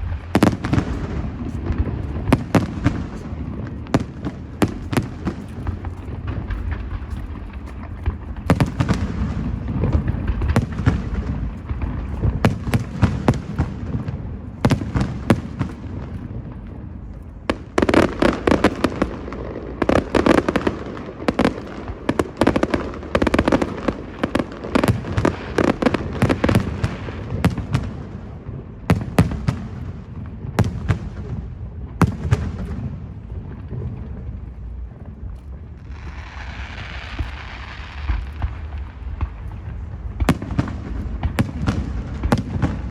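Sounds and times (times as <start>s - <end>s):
firework bangs: 0.0s - 42.9s
firework crackle: 0.0s - 42.9s.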